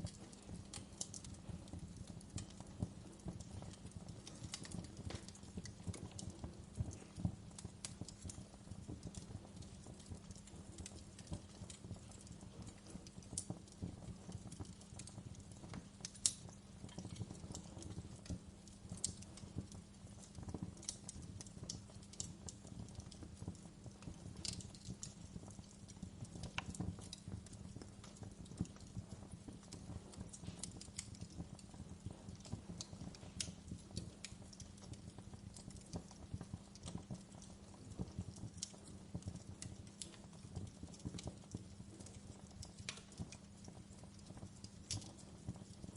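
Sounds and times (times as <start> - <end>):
low rumble of flames: 0.0 - 45.9.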